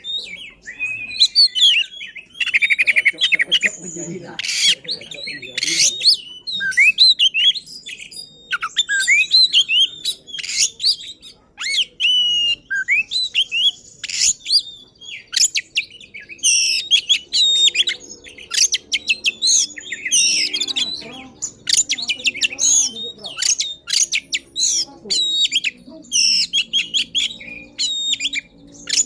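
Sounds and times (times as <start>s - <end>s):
songbird singing fast: 0.0s - 29.0s.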